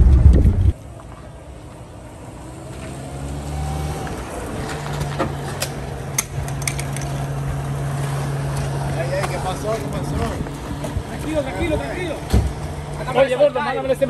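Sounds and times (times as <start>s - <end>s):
car engine humming: 0.0s - 14.0s.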